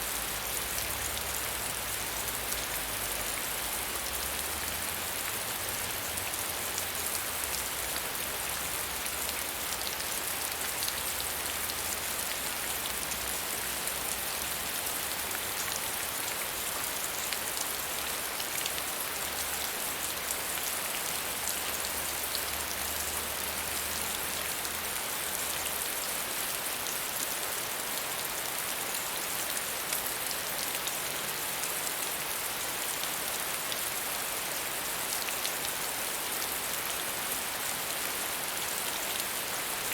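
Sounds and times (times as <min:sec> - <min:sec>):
rain hissing and pattering: 0:00.0 - 0:39.9.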